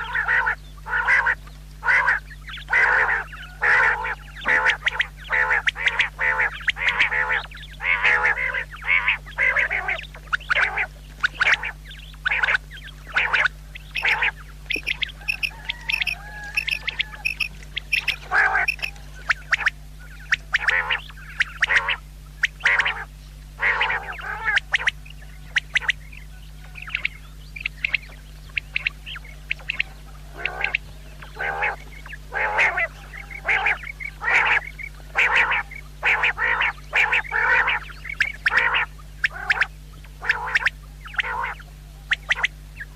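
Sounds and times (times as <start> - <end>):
quail calling raspy notes: 0.0 - 42.9
steady low hum: 0.0 - 42.9.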